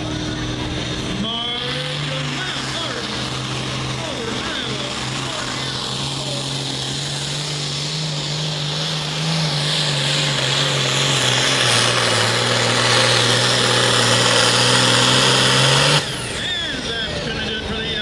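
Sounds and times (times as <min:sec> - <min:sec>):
diesel tractor engine running flat out: 0:00.0 - 0:18.0.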